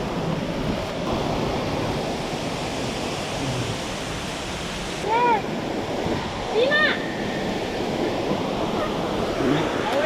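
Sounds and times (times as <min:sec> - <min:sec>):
rushing river and waterfall: 0:00.0 - 0:10.0.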